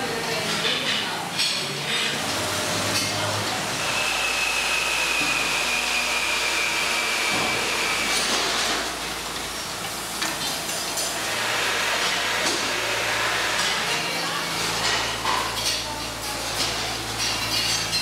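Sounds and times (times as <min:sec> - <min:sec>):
steady hissing workshop noise: 0:00.0 - 0:18.0.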